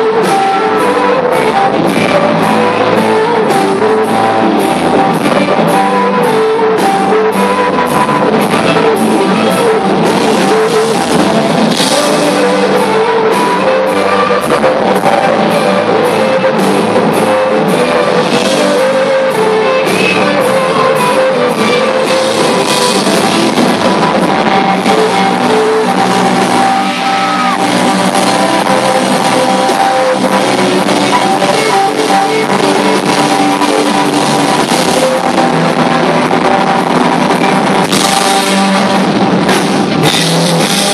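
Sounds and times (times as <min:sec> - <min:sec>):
electric guitar: 0:00.0 - 0:40.9
steady drum beat: 0:00.0 - 0:40.9.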